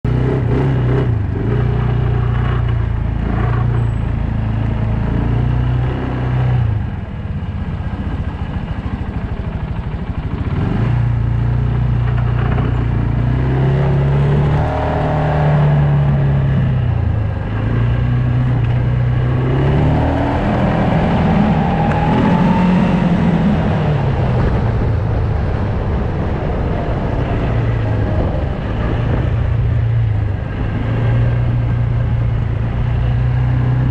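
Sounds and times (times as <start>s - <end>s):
quad bike engine revving: 0.1s - 6.9s, 9.8s - 33.9s.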